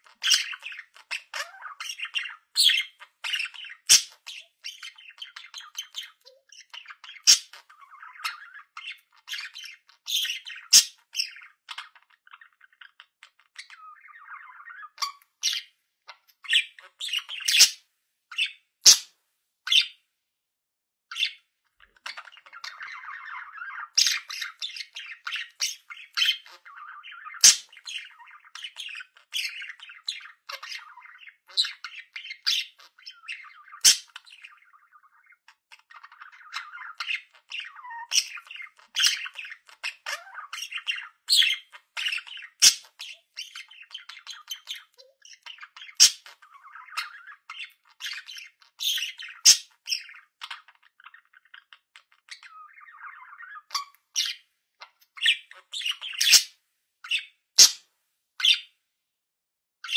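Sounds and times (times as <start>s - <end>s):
budgerigars warbling chatter: 0.0s - 19.1s, 19.7s - 20.0s, 21.1s - 57.8s, 58.4s - 58.7s.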